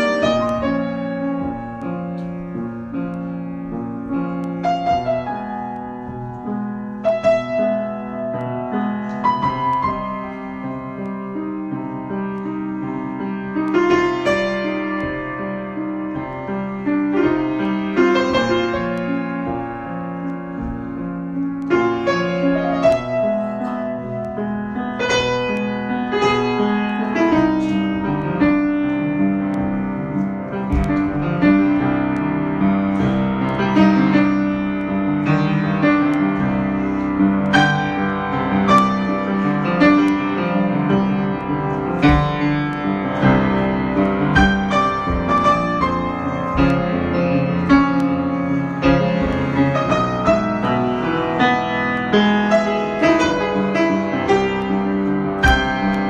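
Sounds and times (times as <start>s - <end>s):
solo grand piano: 0.0s - 56.0s.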